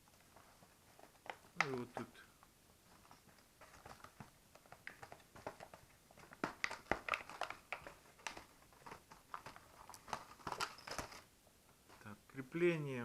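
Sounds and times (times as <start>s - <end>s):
packaging crinkling: 0.0s - 12.1s.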